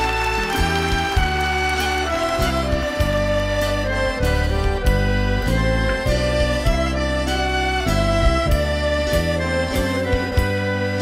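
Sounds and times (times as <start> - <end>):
folk band playing: 0.0 - 11.0.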